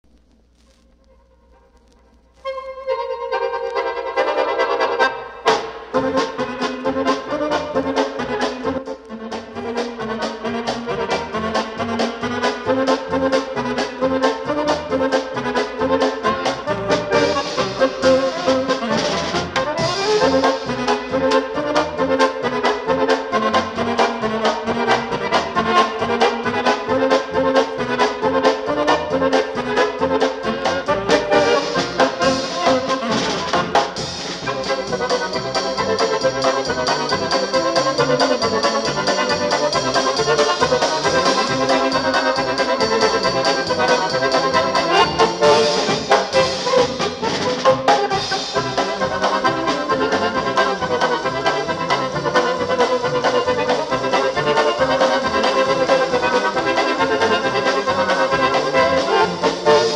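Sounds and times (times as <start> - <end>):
polka band playing: 2.4 - 59.9.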